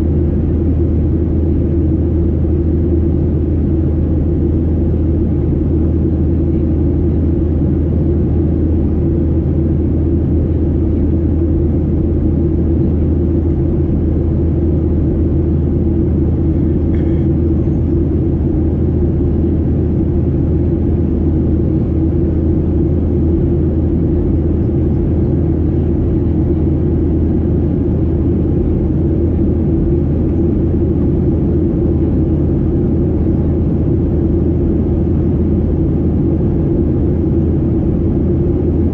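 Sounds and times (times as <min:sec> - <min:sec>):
airplane cabin engine drone: 0:00.0 - 0:38.9.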